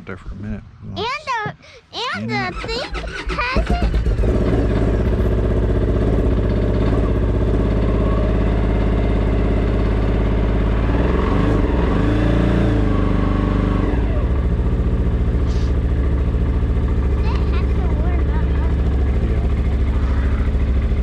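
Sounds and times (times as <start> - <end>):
vehicle engine idling: 2.2 - 12.0, 13.0 - 21.0.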